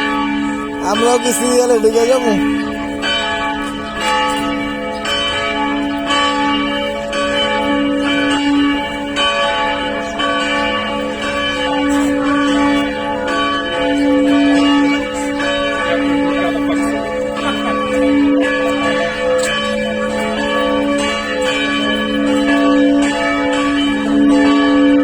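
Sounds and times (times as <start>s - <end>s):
church bells ringing: 0.0s - 25.0s.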